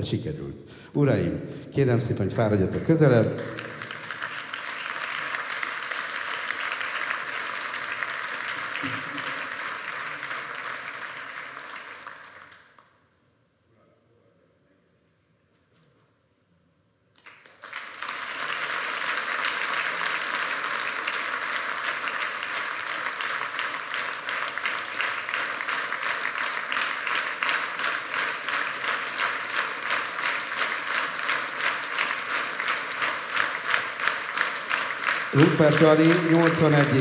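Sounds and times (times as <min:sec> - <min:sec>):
audience applauding: 0:02.7 - 0:13.0, 0:17.2 - 0:37.0
rhythmic clapping in unison: 0:02.7 - 0:13.0, 0:17.2 - 0:37.0.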